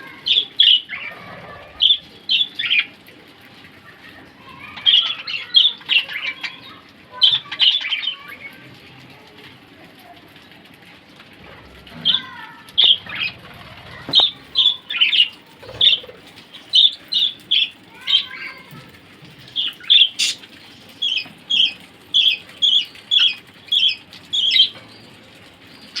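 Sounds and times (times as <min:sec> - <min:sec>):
parrots chirping: 0:00.1 - 0:03.0, 0:04.5 - 0:08.5, 0:12.0 - 0:26.0.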